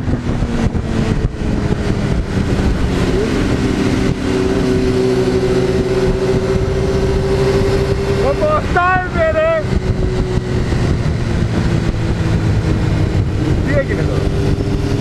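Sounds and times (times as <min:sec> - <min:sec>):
motorcycle engine cruising: 0:00.0 - 0:15.0
wind rush: 0:00.0 - 0:15.0.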